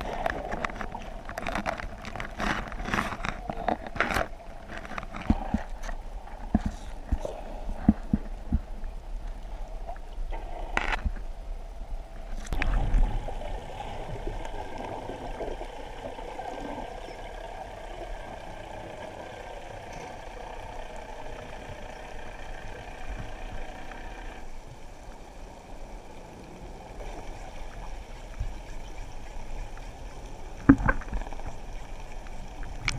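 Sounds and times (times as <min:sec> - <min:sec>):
boat engine drone underwater: 0:00.0 - 0:32.9.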